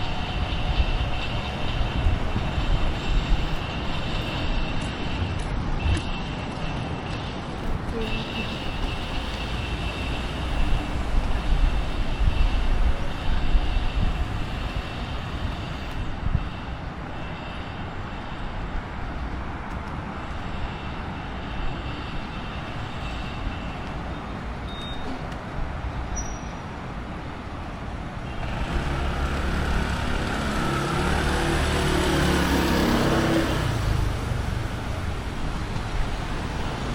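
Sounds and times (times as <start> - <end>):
road traffic rumble: 0.0 - 36.9.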